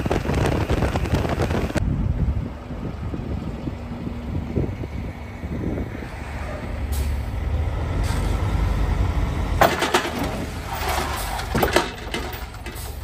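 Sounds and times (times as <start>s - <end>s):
diesel truck engine idling: 1.8s - 13.0s.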